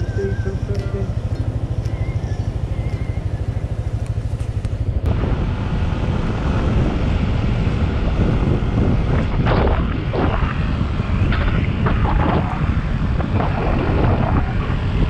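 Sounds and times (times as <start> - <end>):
motorcycle engine: 0.0 - 15.0
wind rushing over microphone: 0.0 - 15.0.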